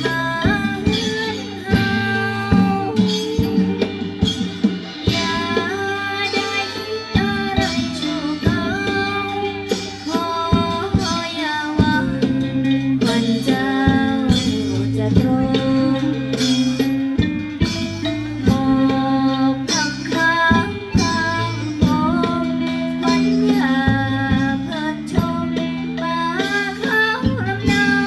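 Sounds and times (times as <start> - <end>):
drum and percussion beats: 0.0 - 28.0
person singing: 0.0 - 28.0.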